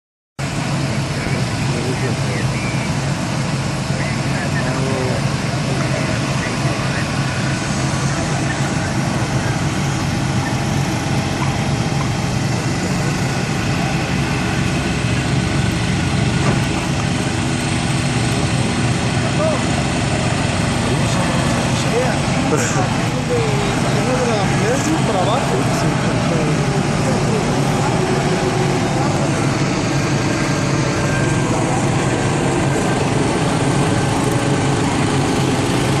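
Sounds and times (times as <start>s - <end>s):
vehicle engine idling: 0.4s - 36.0s.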